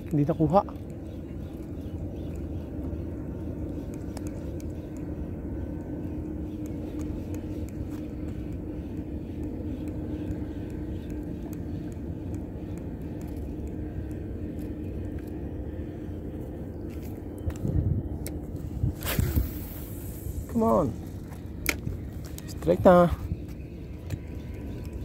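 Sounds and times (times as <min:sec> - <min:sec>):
distant motor droning: 0:00.0 - 0:25.0.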